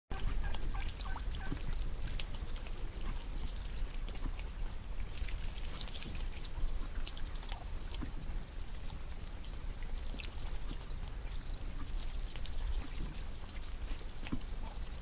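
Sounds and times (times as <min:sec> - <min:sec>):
ducks dabbling in mud: 0:00.1 - 0:15.0.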